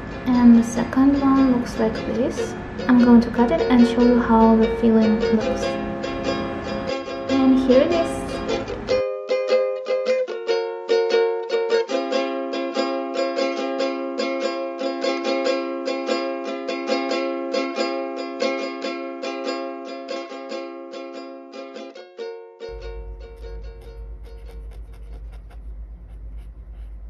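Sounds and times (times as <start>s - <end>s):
plucked string music: 0.0s - 25.8s.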